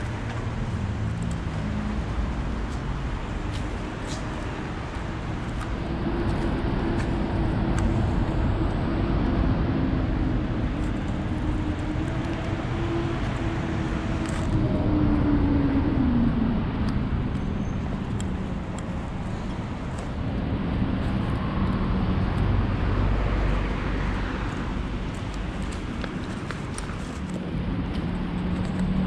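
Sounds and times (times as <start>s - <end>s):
cars passing by: 0.0s - 29.0s.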